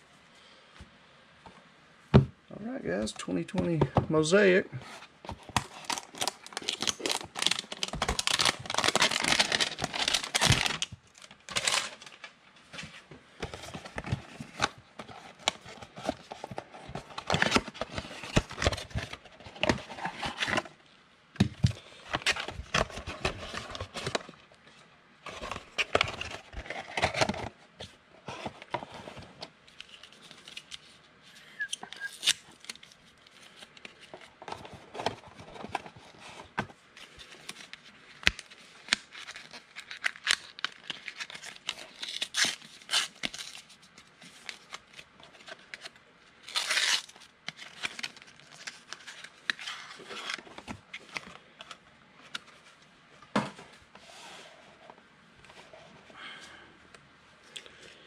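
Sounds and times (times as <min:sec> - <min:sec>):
cardboard and wrapper crinkling: 0:04.3 - 0:20.8, 0:21.4 - 0:24.5, 0:25.2 - 0:52.8.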